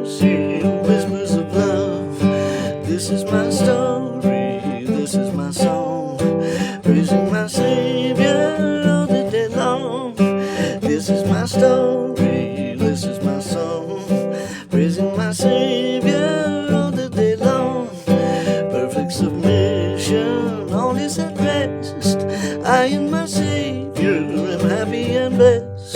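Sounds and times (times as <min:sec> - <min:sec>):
acoustic guitar hymn instrumental: 0:00.0 - 0:25.9.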